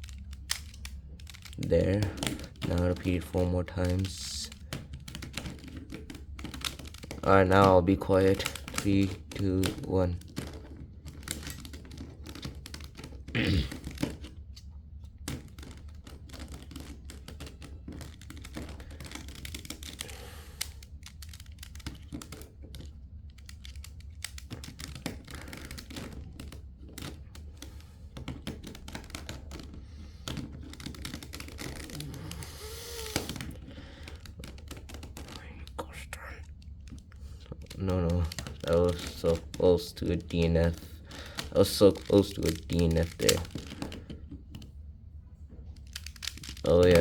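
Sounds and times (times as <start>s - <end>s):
puzzle cube clicking: 0.0s - 14.4s, 15.2s - 44.7s, 45.7s - 47.0s.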